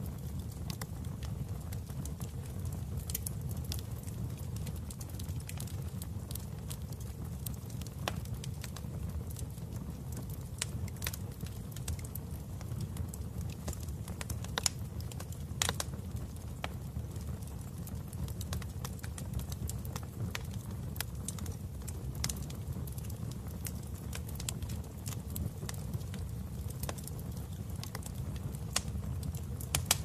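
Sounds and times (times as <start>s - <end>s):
fire crackling in fireplace: 0.0s - 30.0s.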